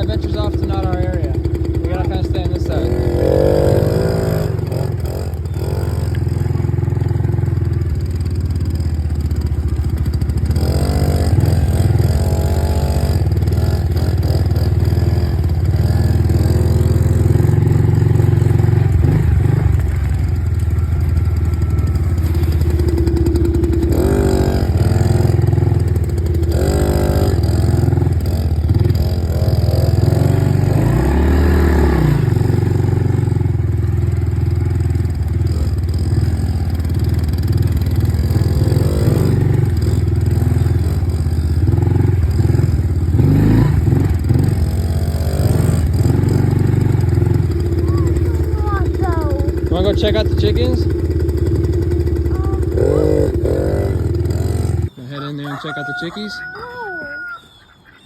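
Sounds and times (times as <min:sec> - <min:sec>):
dirt bike engine revving: 0:00.0 - 0:56.5.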